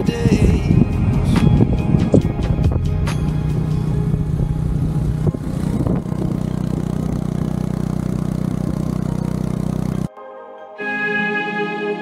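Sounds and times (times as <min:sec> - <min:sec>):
vehicle engine running: 0:00.1 - 0:10.1.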